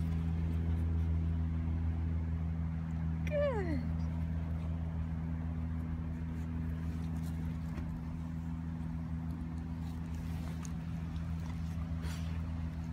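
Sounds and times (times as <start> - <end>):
low mechanical hum: 0.0 - 12.9.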